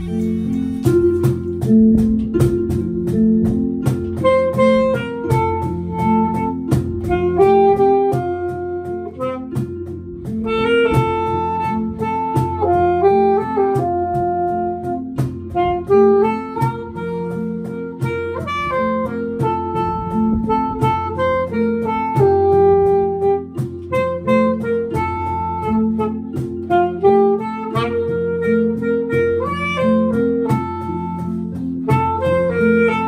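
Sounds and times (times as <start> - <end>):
bass with steady beat: 0.0 - 33.0
guitar chords: 0.0 - 33.0
saxophone melody: 0.0 - 33.0.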